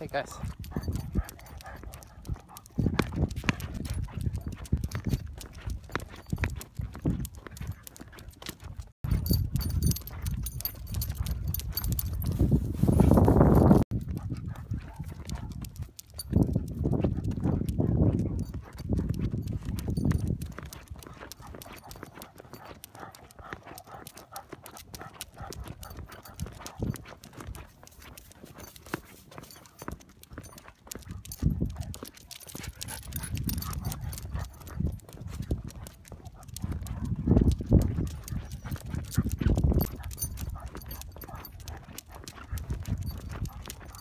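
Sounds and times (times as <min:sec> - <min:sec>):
collar tags jingling: 0:00.0 - 0:44.0
dog claws clicking on concrete: 0:00.4 - 0:12.5, 0:13.8 - 0:44.0.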